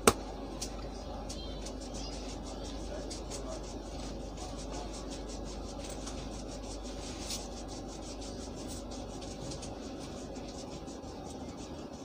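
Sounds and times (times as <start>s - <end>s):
hands rubbing over cloth: 1.7s - 12.0s.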